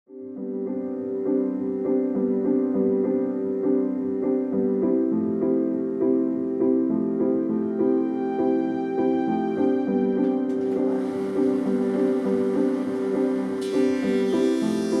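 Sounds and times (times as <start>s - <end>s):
gentle piano music: 0.1s - 15.0s.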